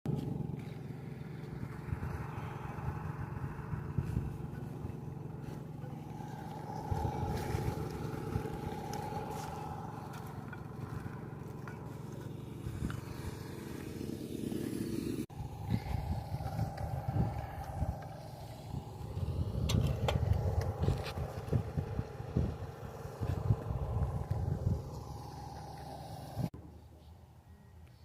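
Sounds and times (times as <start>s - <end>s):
motor humming: 0.1s - 26.5s.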